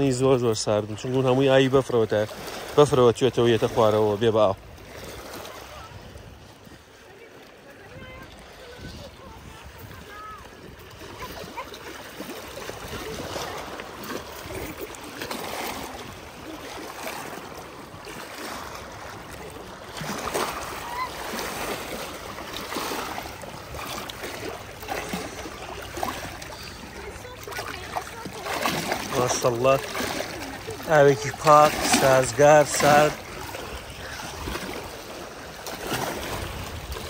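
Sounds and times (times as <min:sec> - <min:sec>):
water lapping at shore: 0:00.0 - 0:37.0.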